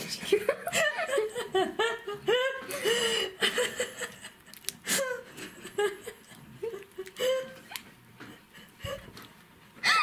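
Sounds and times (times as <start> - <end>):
soft giggling and laughter: 0.0 - 10.0.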